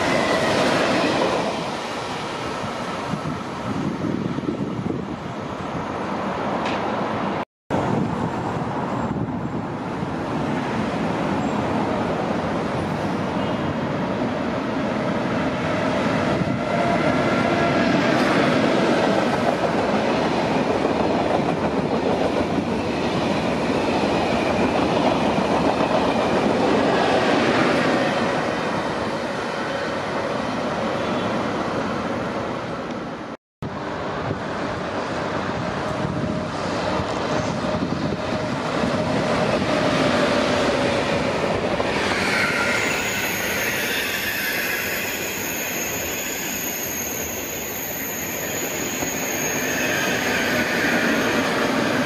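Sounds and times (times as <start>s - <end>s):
high-speed train passing: 0.0s - 52.0s.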